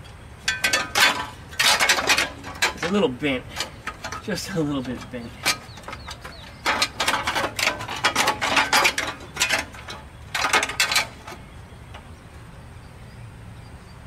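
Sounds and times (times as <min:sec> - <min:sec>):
sheet metal rattling and clanking: 0:00.5 - 0:12.1.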